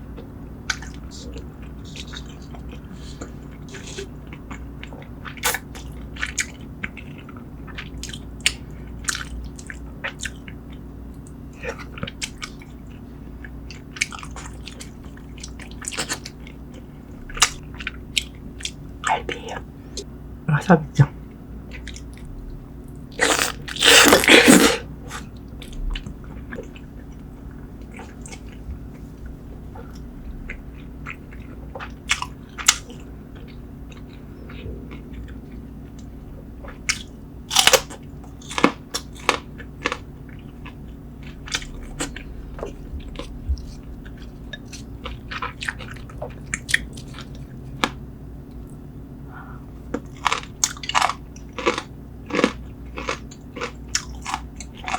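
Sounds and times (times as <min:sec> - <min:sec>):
person chewing food: 0:00.0 - 0:20.1, 0:21.3 - 0:54.9.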